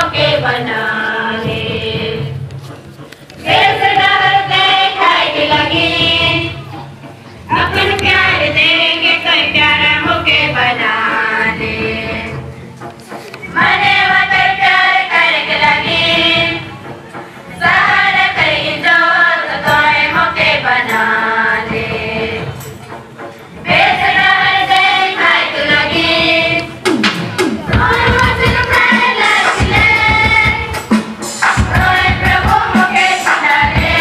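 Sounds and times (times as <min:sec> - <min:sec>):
girls choir singing: 0:00.0 - 0:02.4, 0:03.4 - 0:06.8, 0:07.5 - 0:12.4, 0:13.5 - 0:16.8, 0:17.6 - 0:22.6, 0:23.6 - 0:26.9, 0:27.7 - 0:30.9, 0:31.5 - 0:34.0.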